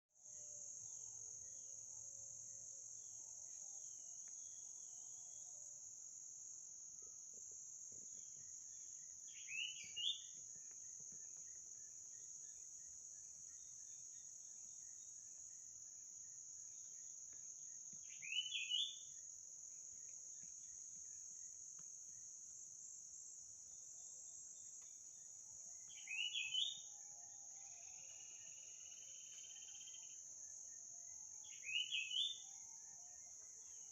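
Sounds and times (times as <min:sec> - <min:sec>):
insects droning: 0:00.2 - 0:33.9.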